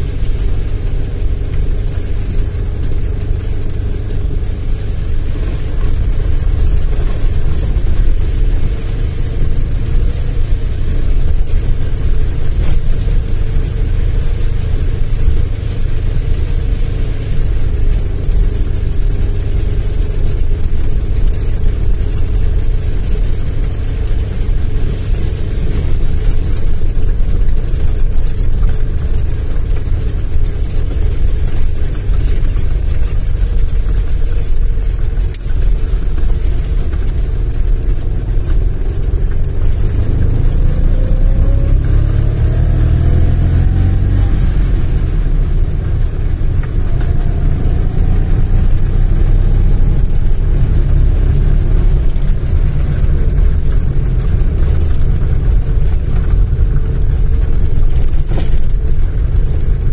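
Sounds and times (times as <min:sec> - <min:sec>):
faint engine hum: 0:00.0 - 0:59.9
low tyre rumble in car cabin: 0:00.0 - 0:59.9.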